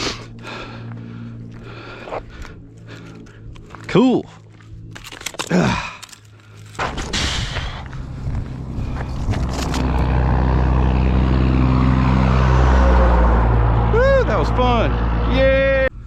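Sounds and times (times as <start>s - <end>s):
vehicle engine approaching: 0.0s - 4.9s, 7.5s - 16.0s.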